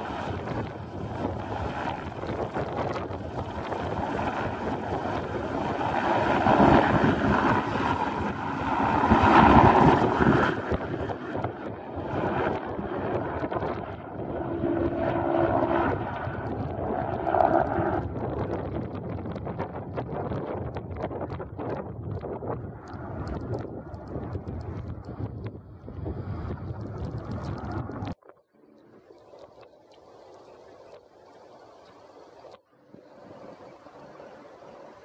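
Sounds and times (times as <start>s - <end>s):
helicopter rotor and engine: 0.0s - 28.1s
wind buffeting microphone: 0.0s - 28.3s.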